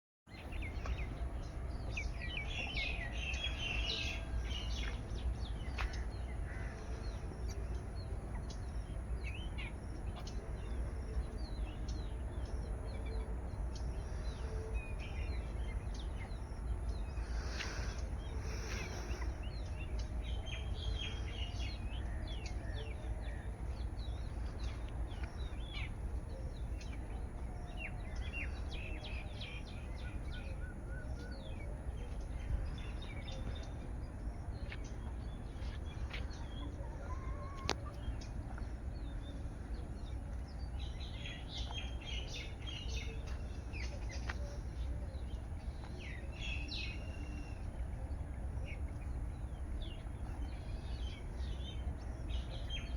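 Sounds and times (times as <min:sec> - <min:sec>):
small birds chirping: 0:00.3 - 0:52.9
steady low rumble: 0:00.3 - 0:52.9.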